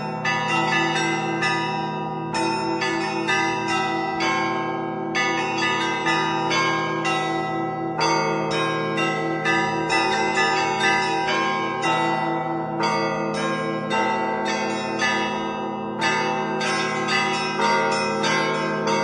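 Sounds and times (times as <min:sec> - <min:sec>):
hum of large bells ringing: 0:00.0 - 0:19.0.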